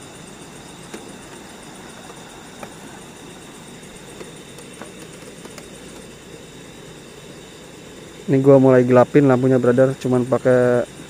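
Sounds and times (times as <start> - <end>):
thin steady high tone: 0.0 - 11.0.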